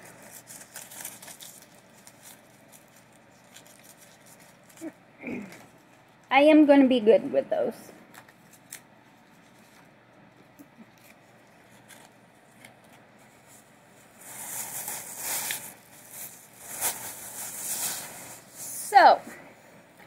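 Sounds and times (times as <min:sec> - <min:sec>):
candy packaging crinkling: 0:00.0 - 0:06.1, 0:08.1 - 0:18.9.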